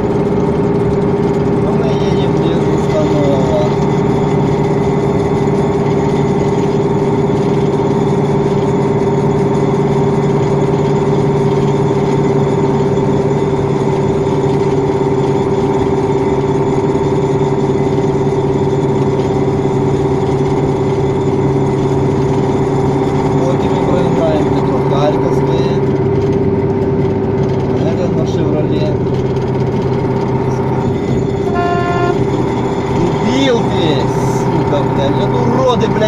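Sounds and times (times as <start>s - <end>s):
truck diesel engine droning: 0.0s - 36.0s.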